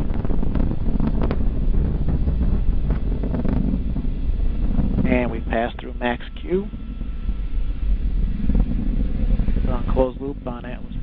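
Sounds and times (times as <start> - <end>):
rocket engine crackles: 0.0 - 11.0
rocket engine roar: 0.0 - 11.0.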